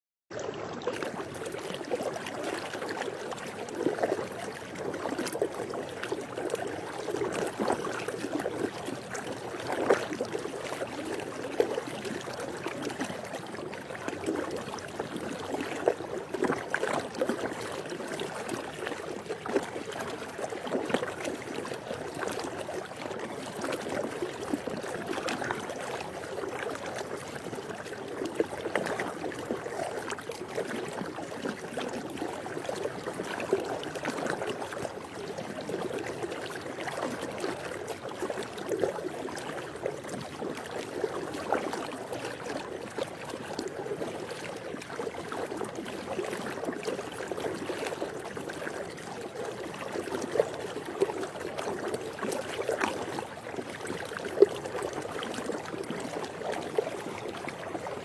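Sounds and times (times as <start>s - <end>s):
pool water splashing: 0.4s - 58.0s.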